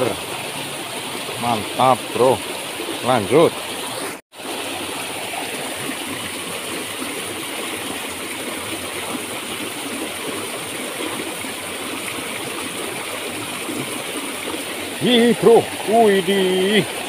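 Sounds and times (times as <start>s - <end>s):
stream rushing over rocks: 0.0s - 17.0s
water spraying from leaking pipe: 0.0s - 17.0s.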